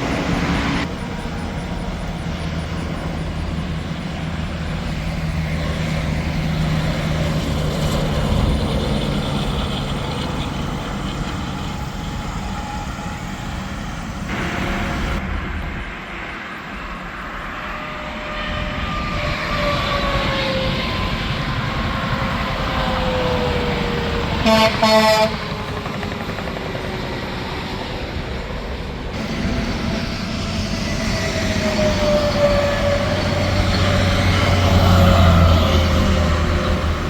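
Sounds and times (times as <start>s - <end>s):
highway traffic passing: 0.0s - 37.0s.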